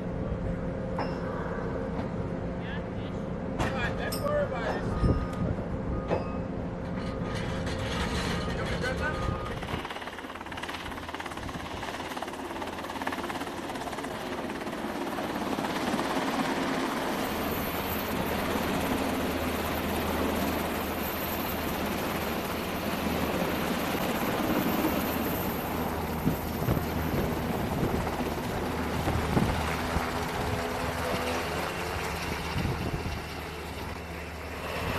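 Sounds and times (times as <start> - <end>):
helicopter hovering: 0.0 - 34.9.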